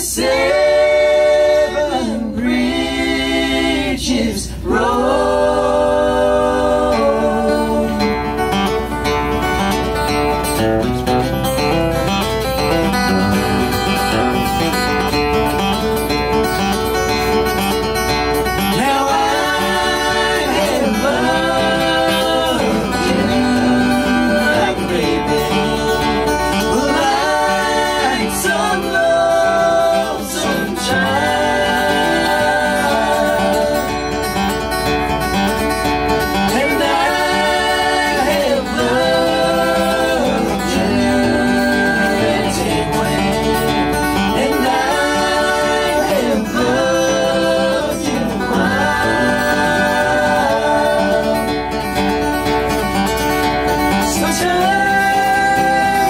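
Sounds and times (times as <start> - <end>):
acoustic guitar: 0.0 - 56.0
voices singing in harmony: 0.0 - 56.0.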